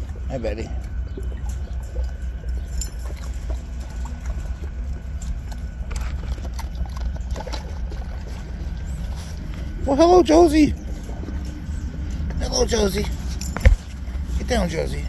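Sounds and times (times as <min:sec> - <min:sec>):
low rumble on microphone: 0:00.0 - 0:15.0.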